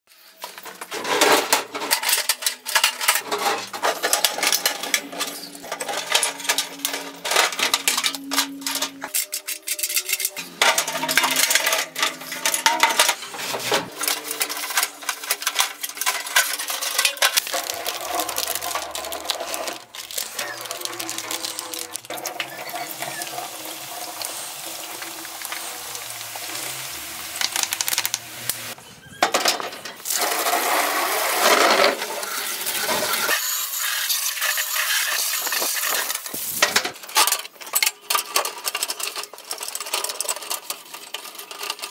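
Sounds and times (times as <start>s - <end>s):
metal tool box clanking: 0.3s - 26.6s, 29.2s - 33.4s, 35.2s - 41.9s.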